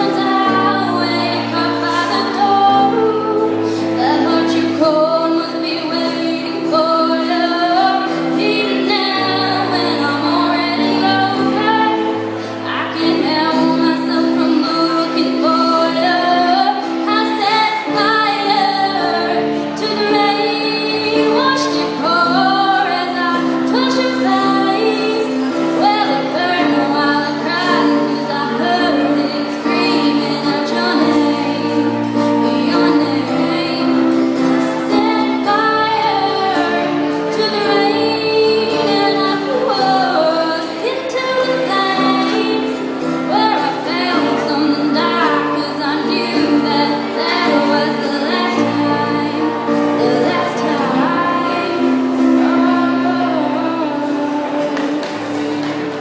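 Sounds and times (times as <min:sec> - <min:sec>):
instrumental accompaniment: 0:00.0 - 0:56.0
woman singing: 0:00.0 - 0:56.0.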